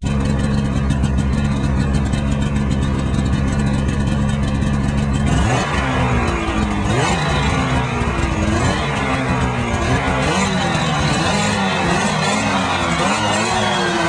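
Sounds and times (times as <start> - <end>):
snowmobile engine idling: 0.0 - 14.0.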